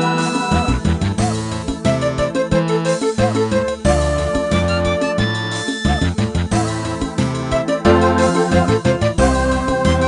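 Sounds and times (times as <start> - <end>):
keyboard melody: 0.0 - 10.0
bass notes: 0.5 - 10.0.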